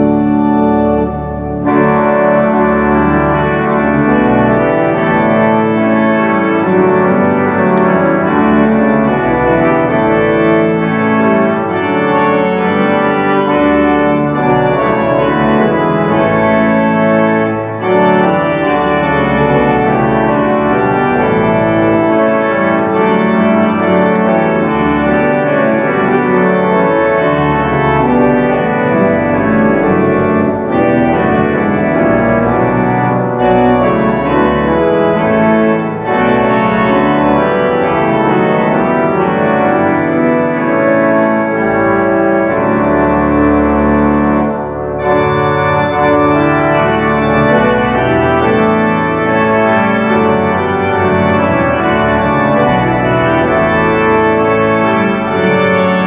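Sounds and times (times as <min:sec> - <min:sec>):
organ playing a hymn: 0:00.0 - 0:56.0.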